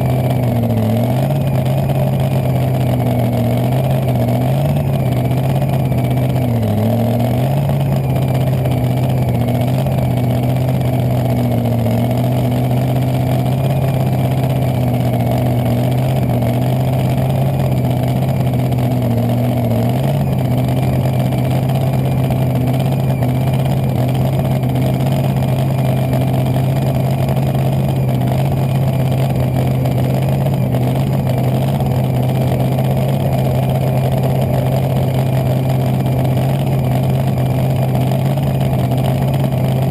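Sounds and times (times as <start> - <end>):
dragster engine running steadily: 0.0 - 39.9.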